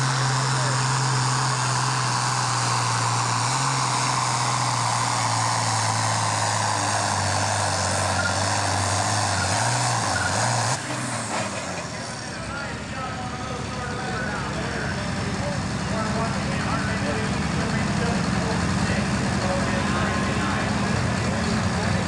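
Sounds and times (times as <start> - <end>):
diesel tractor engine under load: 0.0 - 22.0.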